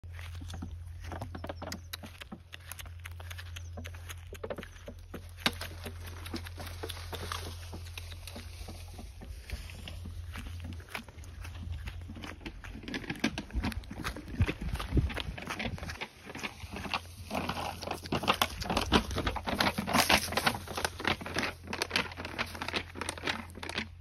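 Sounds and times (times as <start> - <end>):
steady low hum: 0.0 - 23.6
footsteps crunching through dry grass: 0.0 - 24.0.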